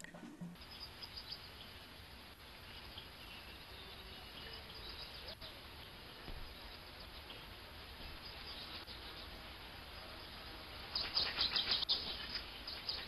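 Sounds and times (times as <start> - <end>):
low hiss of background noise: 0.0 - 13.0
faint bird chirps: 0.6 - 13.0.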